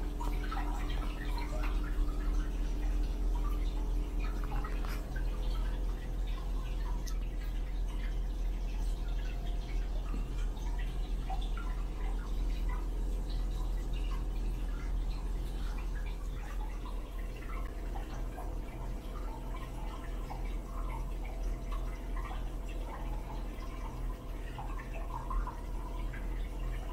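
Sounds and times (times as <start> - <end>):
steady low hum: 0.0 - 26.9
water trickling into bathtub: 0.0 - 26.9.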